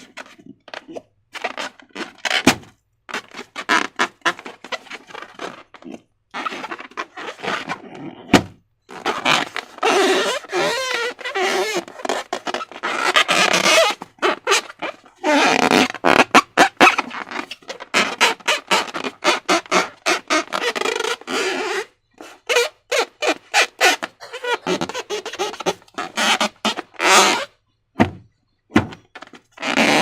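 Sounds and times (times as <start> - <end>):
balloon rubber squeaking: 0.0 - 30.0.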